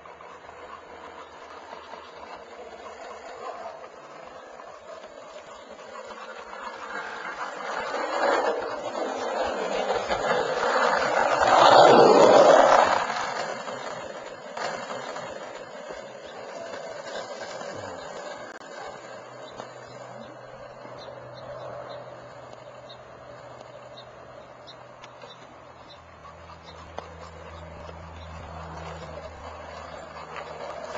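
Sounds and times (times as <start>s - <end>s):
skateboard wheels rolling on asphalt: 0.0s - 30.9s.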